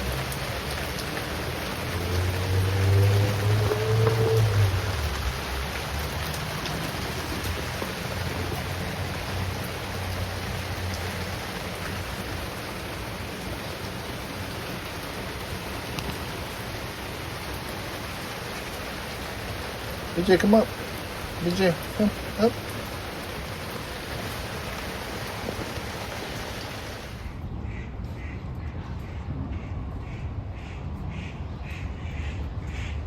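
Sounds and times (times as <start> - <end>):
steady rain falling: 0.0 - 27.4.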